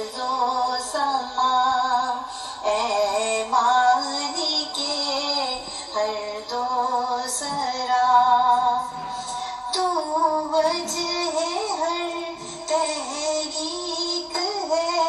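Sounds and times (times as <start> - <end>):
woman singing a hymn: 0.0 - 15.0.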